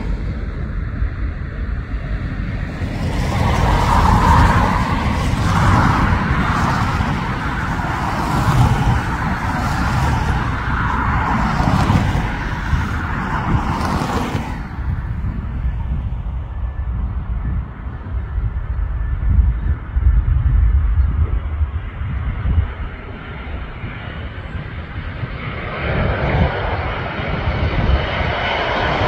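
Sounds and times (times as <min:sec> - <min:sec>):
jet airliner engine rush: 0:00.0 - 0:29.0
low engine rumble: 0:00.0 - 0:29.0.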